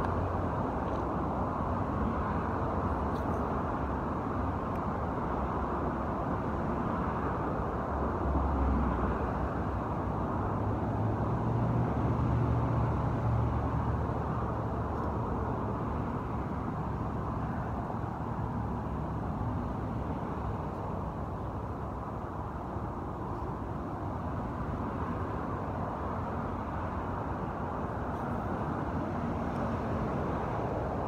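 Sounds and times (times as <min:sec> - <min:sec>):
heavy vehicles rumbling past: 0:00.0 - 0:31.0
highway traffic noise: 0:00.0 - 0:31.0.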